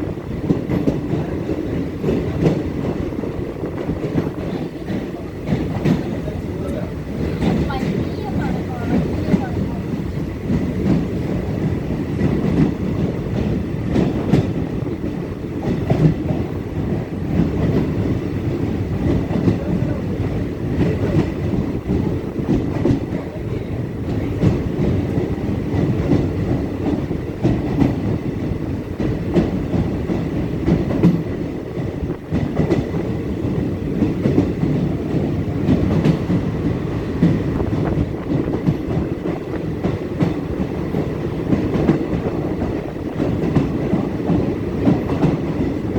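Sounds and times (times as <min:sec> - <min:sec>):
train rumble in tunnel: 0:00.0 - 0:45.9
wheels clacking over rails: 0:00.0 - 0:45.9.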